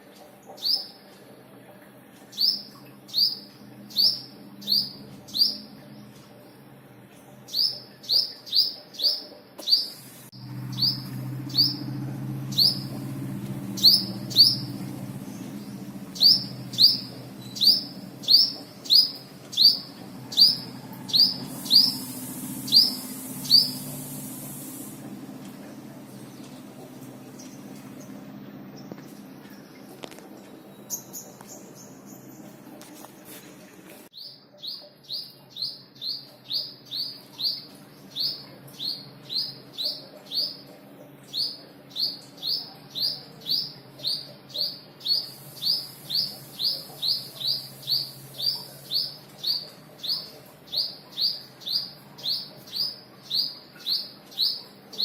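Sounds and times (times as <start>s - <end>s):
low steady hum: 0.0s - 55.0s
small bird chirping: 0.6s - 1.0s, 2.3s - 6.6s, 7.4s - 32.6s, 34.1s - 40.7s, 41.3s - 55.0s.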